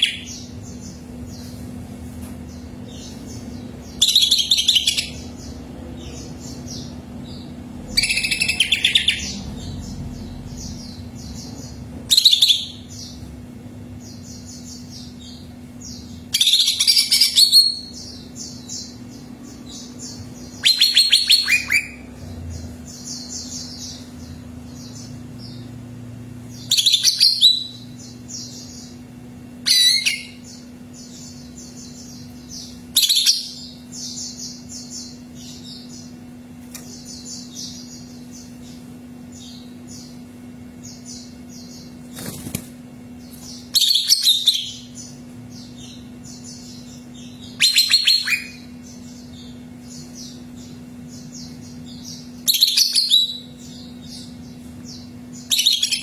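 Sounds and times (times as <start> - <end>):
bird singing rattling phrases: 0.0 - 56.0
steady low hum: 0.0 - 56.0.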